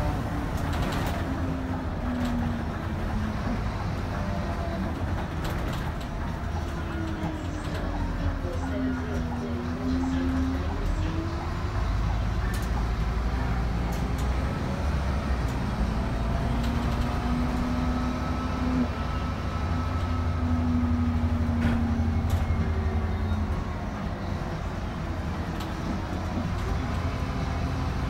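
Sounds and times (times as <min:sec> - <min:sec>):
bus engine rumble: 0:00.0 - 0:28.0
engine whine: 0:00.0 - 0:28.0.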